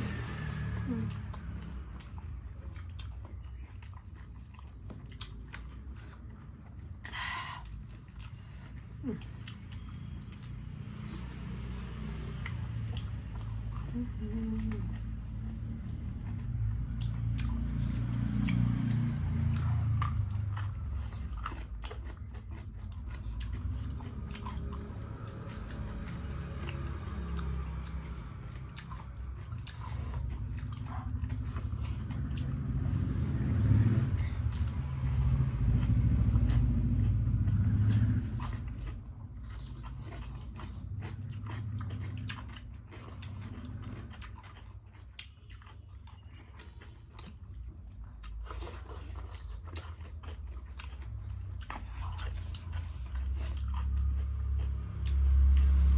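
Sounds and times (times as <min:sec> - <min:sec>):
chewing and crunching food: 0:00.0 - 0:55.9.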